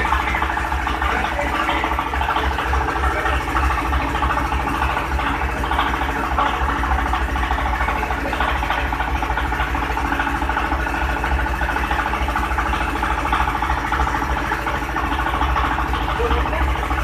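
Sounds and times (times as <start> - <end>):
grinding rattle: 0.0 - 17.0
hammer mill motor humming: 0.0 - 17.0.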